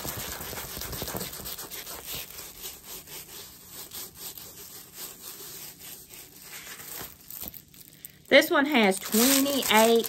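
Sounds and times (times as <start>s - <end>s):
plastic film rustling: 0.0s - 10.0s.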